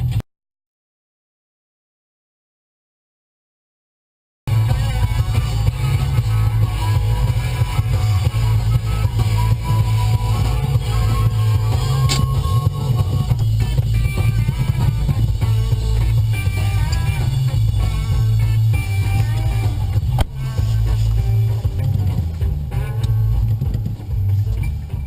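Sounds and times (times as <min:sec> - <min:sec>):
rock music with guitar and bass: 0:00.0 - 0:00.2, 0:04.5 - 0:25.0.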